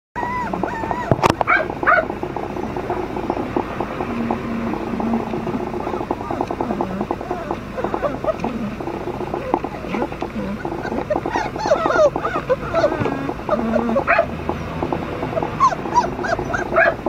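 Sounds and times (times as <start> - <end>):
puppies whining and squealing: 0.2 - 17.0.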